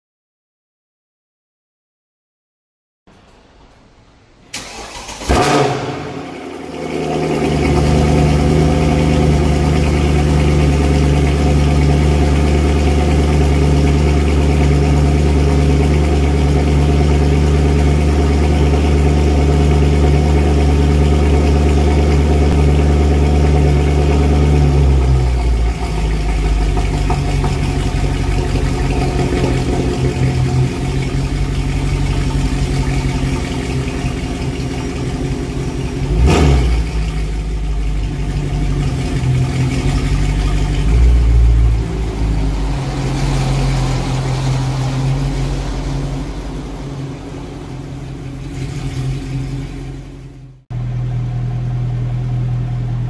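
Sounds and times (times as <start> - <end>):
car engine idling: 4.3 - 53.0
engine revving: 4.6 - 53.0.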